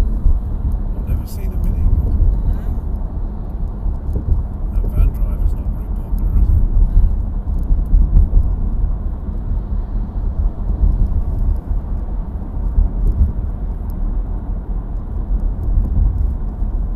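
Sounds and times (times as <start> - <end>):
car engine and tyre road noise: 0.0 - 16.9.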